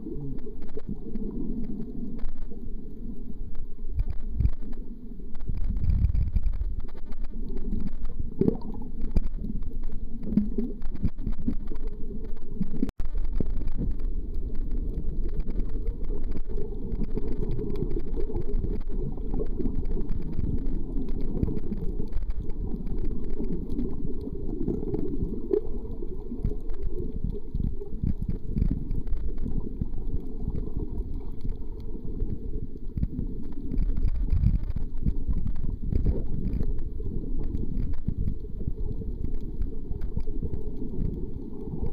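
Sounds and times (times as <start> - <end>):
faint crackle: 0.0 - 41.9
muffled underwater rumble: 0.0 - 41.9.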